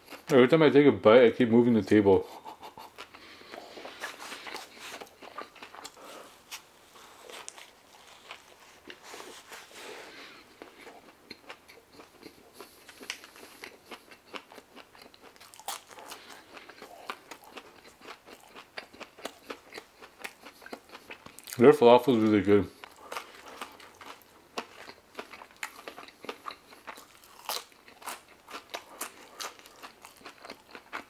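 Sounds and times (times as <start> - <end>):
person chewing crunchy food: 0.0 - 0.3, 2.4 - 21.6, 22.7 - 31.0.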